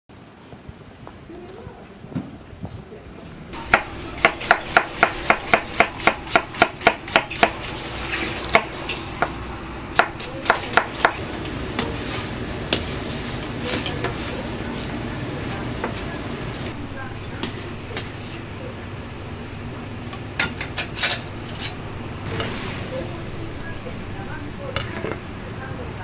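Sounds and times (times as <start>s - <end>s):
gas burner hissing: 3.6s - 26.0s
water boiling: 3.6s - 26.0s.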